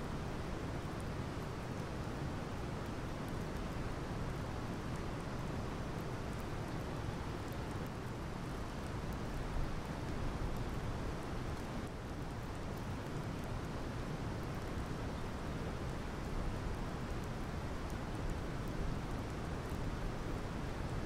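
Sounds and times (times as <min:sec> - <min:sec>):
rain drops ticking: 0:00.0 - 0:21.0
steady wind: 0:00.0 - 0:21.0.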